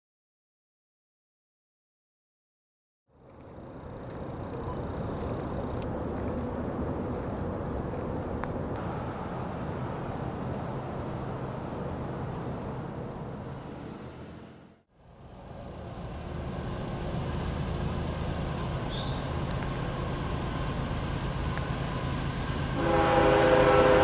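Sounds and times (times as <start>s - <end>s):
insect chorus: 3.1s - 24.0s.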